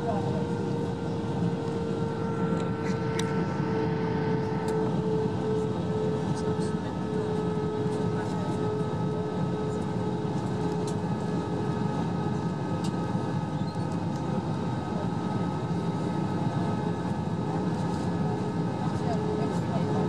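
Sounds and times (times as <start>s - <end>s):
airliner cabin engine roar: 0.0s - 20.0s.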